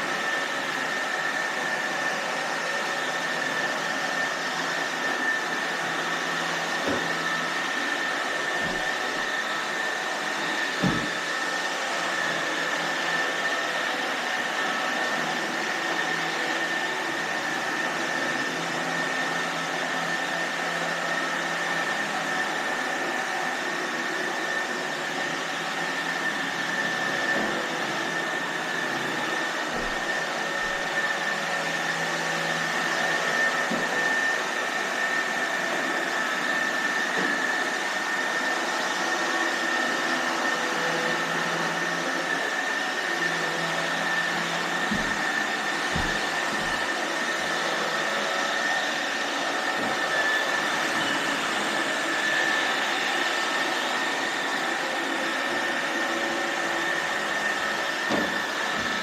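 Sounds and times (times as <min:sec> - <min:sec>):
robot vacuum cleaner whining: 0:00.0 - 0:59.0.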